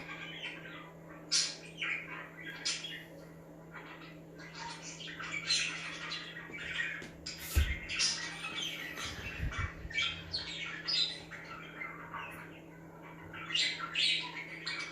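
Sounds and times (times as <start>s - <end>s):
budgies chirping and squawking: 0.0s - 14.9s.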